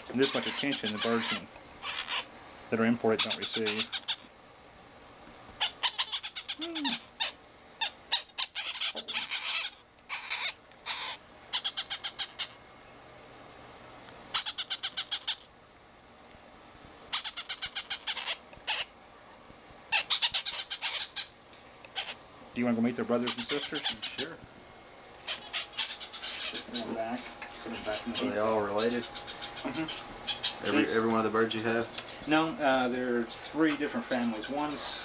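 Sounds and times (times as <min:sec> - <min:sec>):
parrot chicks chirping: 0:00.0 - 0:04.3, 0:05.4 - 0:12.6, 0:14.3 - 0:15.5, 0:17.1 - 0:19.0, 0:19.9 - 0:35.0.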